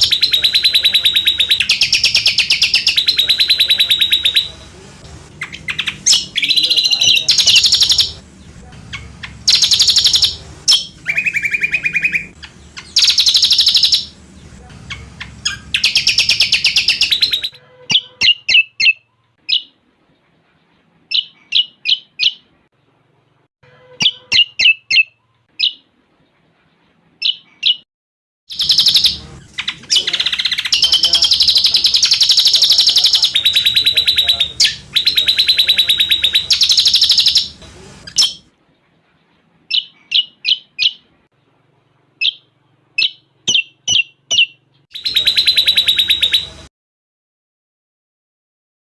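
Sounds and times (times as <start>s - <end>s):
bird trilling and chirping: 0.0s - 19.8s, 21.1s - 22.5s, 23.8s - 25.9s, 27.2s - 27.8s, 28.5s - 38.5s, 39.7s - 41.1s, 42.2s - 46.7s.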